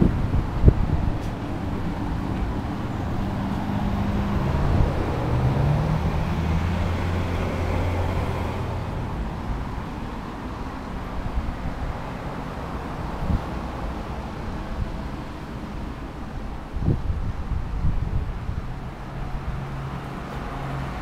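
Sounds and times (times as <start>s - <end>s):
road traffic rumble: 0.0s - 21.0s
vehicle engine hum: 0.0s - 21.0s.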